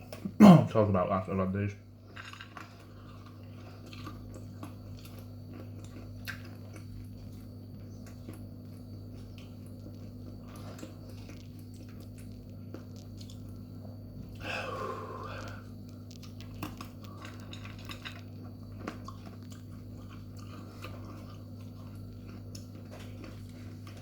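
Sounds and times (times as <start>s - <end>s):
steady low hum: 0.0s - 24.0s
person chewing crunchy peanuts: 1.9s - 24.0s.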